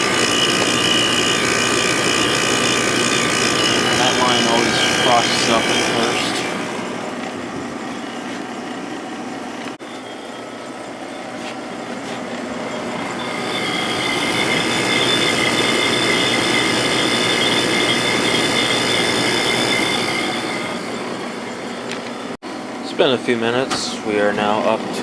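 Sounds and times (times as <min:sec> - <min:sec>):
compressor high metallic ringing: 0:00.0 - 0:08.3, 0:09.8 - 0:22.4
air conditioner fan airflow: 0:00.0 - 0:15.1, 0:18.4 - 0:25.0.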